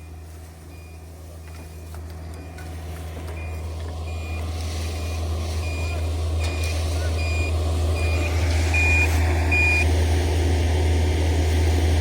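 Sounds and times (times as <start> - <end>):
reversing alarm beeping: 0.0 - 9.9
engine idling hum: 0.0 - 12.0.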